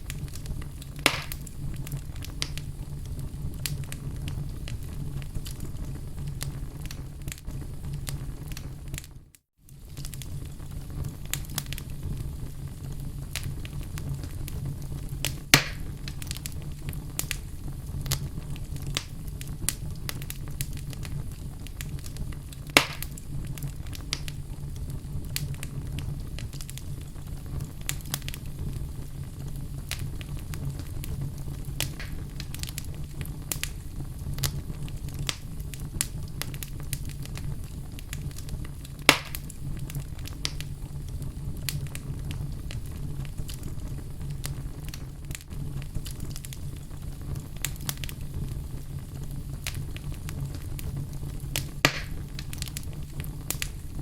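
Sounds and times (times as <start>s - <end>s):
burning logs popping: 0.0s - 54.0s
wood fire crackling: 0.0s - 54.0s.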